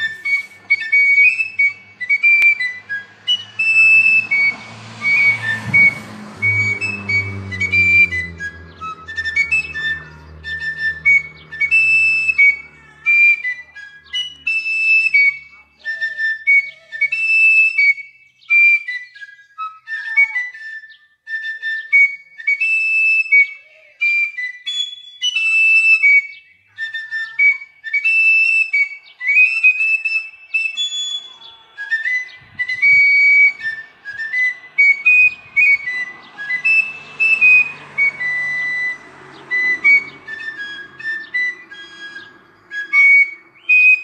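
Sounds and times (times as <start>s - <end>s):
fife melody: 0.0s - 44.0s.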